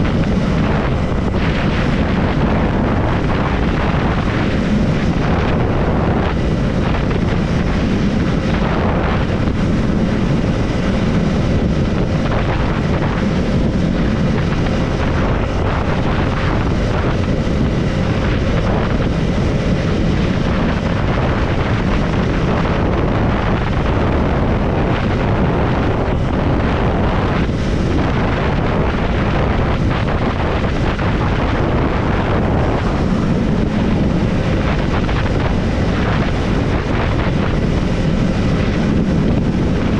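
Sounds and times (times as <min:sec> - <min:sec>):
motorcycle engine at road speed: 0:00.0 - 0:39.9
wind rushing over microphone: 0:00.0 - 0:39.9.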